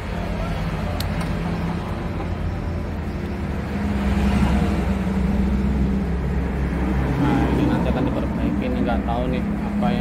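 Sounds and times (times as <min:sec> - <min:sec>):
vehicle engine drone: 0:00.0 - 0:10.0.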